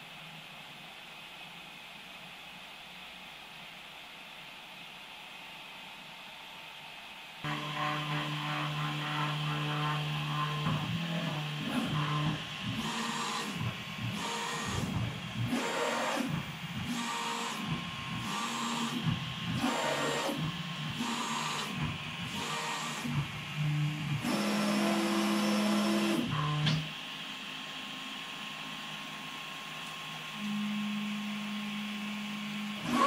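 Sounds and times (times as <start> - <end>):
cooling fans whirring: 0.0 - 33.0.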